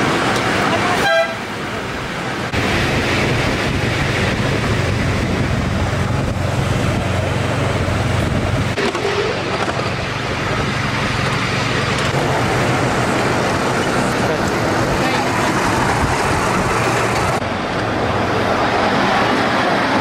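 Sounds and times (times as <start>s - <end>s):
miniature train rumbling on track: 0.0s - 20.0s.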